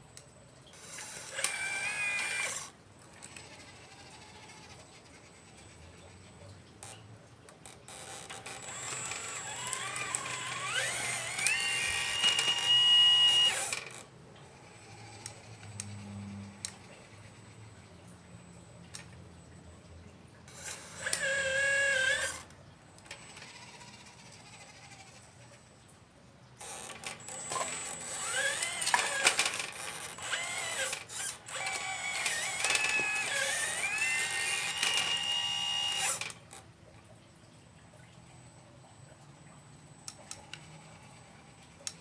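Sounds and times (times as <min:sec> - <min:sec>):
small electric motors whining: 0:00.7 - 0:19.6, 0:20.5 - 0:25.7, 0:26.6 - 0:36.7, 0:39.7 - 0:42.0.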